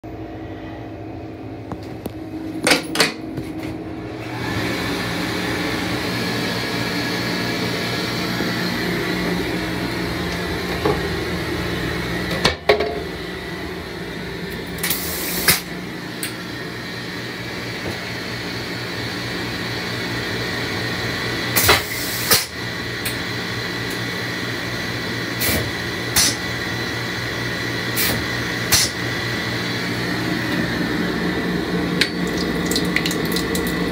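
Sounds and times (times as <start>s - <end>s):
hand dryer blower humming: 2.5s - 33.9s.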